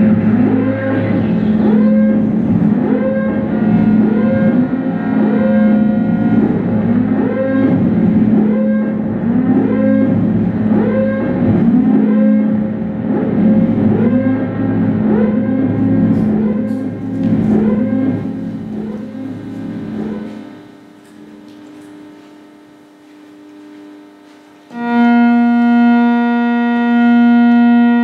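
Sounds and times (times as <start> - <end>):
electric guitar low drone: 0.0 - 22.7, 24.7 - 28.0.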